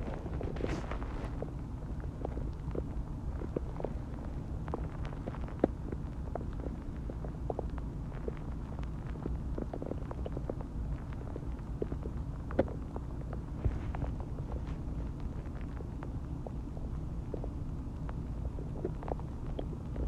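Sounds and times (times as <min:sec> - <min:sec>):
stomach growling and gurgling: 0:00.0 - 0:20.0.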